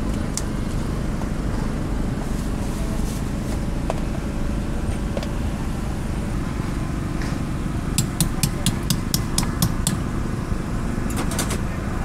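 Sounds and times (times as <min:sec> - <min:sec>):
busy outdoor market din: 0:00.0 - 0:12.0.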